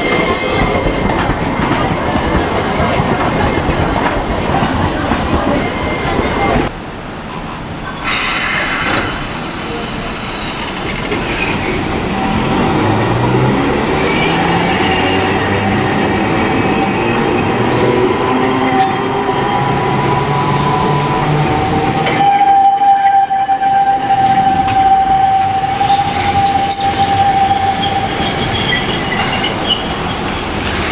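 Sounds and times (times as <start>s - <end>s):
tram wheel squeal: 0.0s - 6.7s, 7.3s - 13.1s, 13.7s - 30.9s
tram pulling away over rails: 0.0s - 30.9s.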